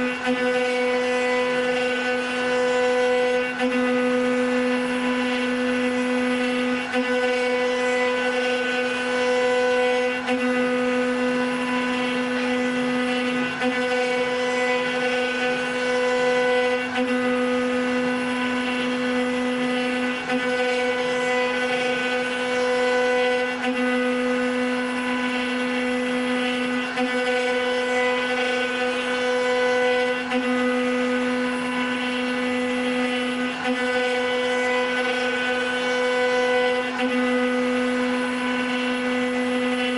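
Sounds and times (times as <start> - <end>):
router spindles whining: 0.0 - 39.9.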